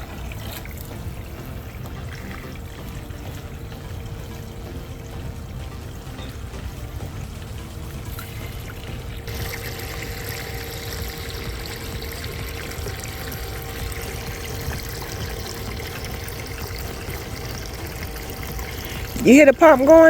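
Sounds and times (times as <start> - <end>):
hose water pouring into basin: 0.0 - 20.0.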